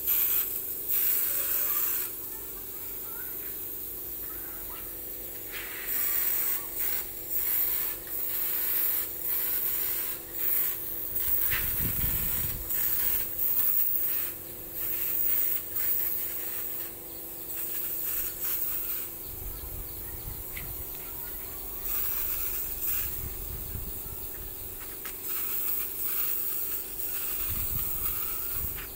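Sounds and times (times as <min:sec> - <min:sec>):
spray gun air hissing in spurts: 0:00.0 - 0:28.9
steady low hum: 0:00.0 - 0:28.9.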